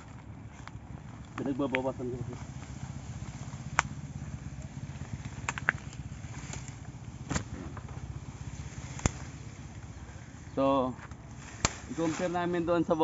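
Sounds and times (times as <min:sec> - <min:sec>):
stems snapping and cracking: 0:00.0 - 0:10.0, 0:10.9 - 0:12.4
motor engine humming: 0:00.0 - 0:13.0.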